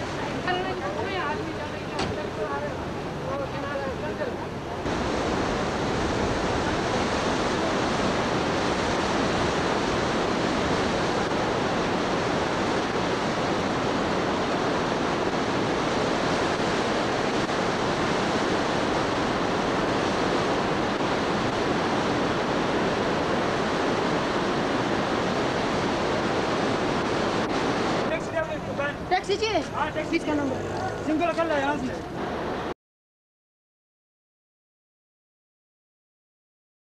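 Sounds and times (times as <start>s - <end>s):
stream rushing loudly: 0.0s - 32.7s.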